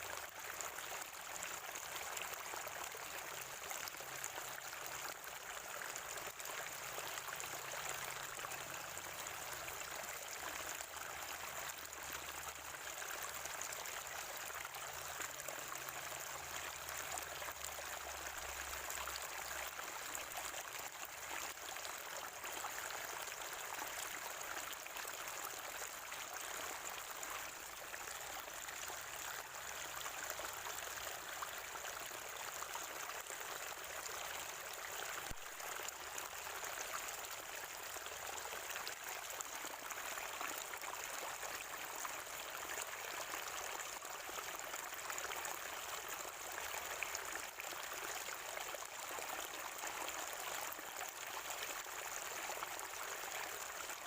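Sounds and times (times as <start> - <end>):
water gurgling over stones: 0.0 - 54.0.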